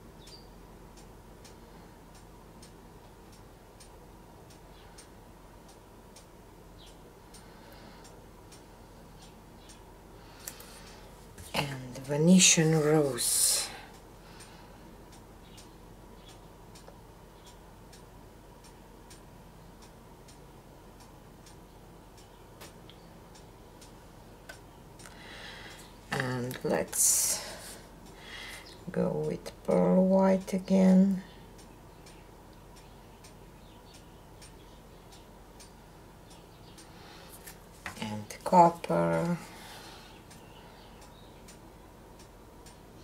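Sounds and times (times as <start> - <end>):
faint even ticking: 0.0 - 43.0
low room hum: 0.0 - 43.0.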